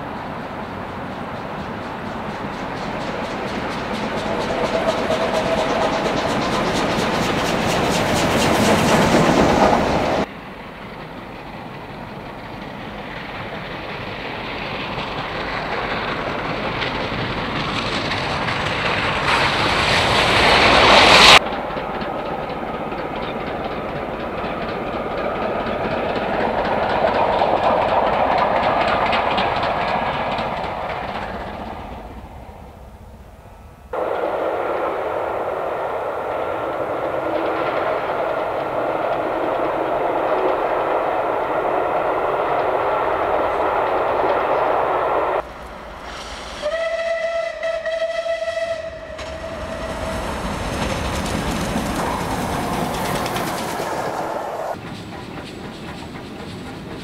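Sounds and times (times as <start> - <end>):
steam train running past: 0.0 - 57.0.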